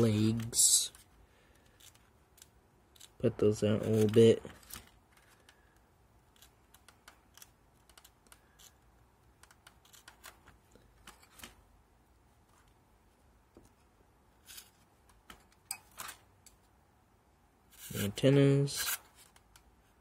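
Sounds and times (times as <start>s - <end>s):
pins clicking and scratching: 0.0s - 11.7s, 13.5s - 16.7s, 17.7s - 20.0s.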